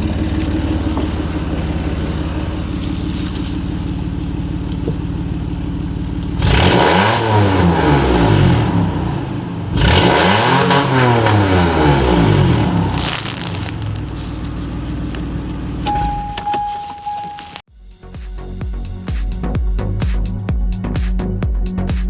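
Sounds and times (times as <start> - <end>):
car engine idling and revving: 0.0 - 21.6.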